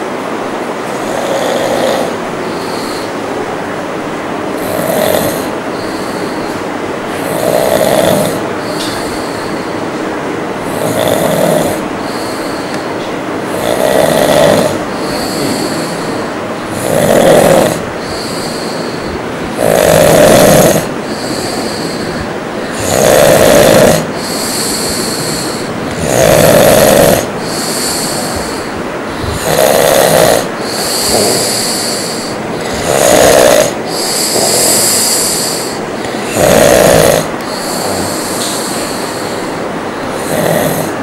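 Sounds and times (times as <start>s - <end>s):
man snoring loudly: 0.9s - 3.2s, 4.6s - 9.8s, 10.6s - 41.0s.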